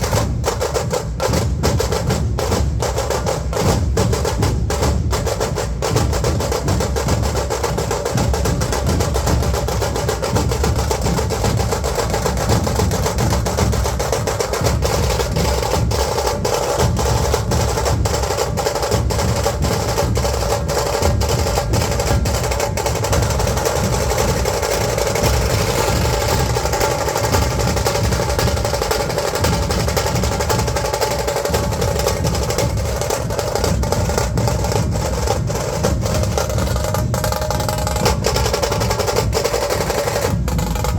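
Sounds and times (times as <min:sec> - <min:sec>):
dhol drums playing: 0:00.0 - 0:40.9.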